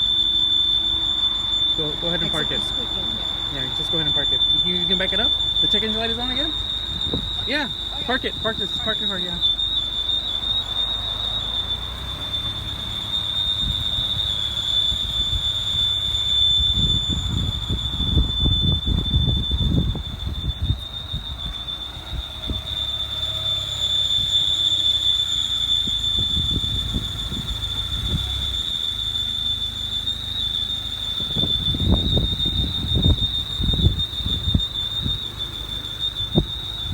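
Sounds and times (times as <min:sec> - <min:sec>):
car engine running: 0:00.0 - 0:36.9
high-pitched squeal from engine: 0:00.0 - 0:36.9.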